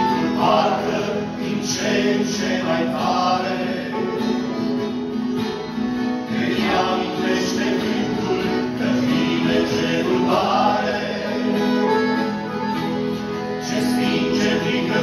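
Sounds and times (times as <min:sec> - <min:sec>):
male vocal group singing: 0:00.0 - 0:04.7, 0:06.2 - 0:12.5, 0:13.6 - 0:15.0
accordion: 0:00.0 - 0:15.0
acoustic guitar: 0:00.0 - 0:15.0.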